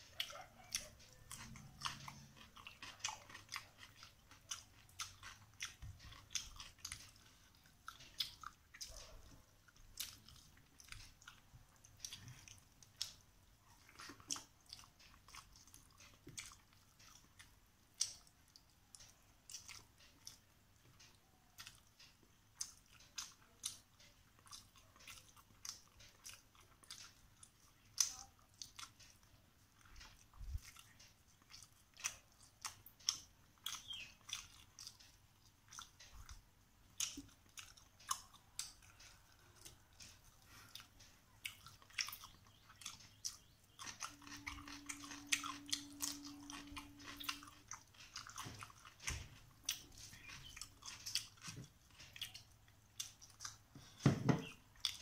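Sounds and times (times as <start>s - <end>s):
fingers squishing food: 0.0s - 55.0s
wet chewing and crunching: 0.0s - 55.0s.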